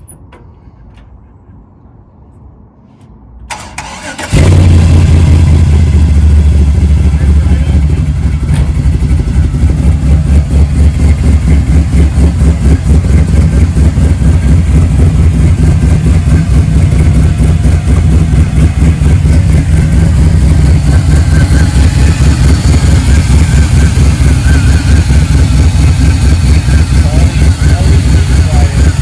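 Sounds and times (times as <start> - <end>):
vehicle engine idling: 3.5 - 29.0.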